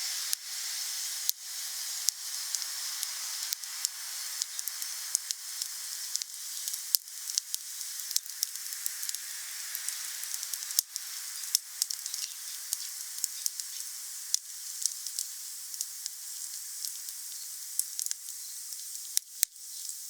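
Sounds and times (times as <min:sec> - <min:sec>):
wood fire crackling: 0:02.0 - 0:20.0.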